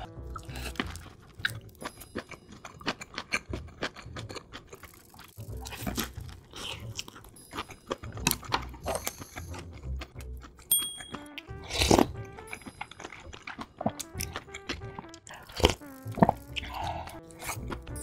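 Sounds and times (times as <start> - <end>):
mouth crunching and chewing: 0.0 - 18.0.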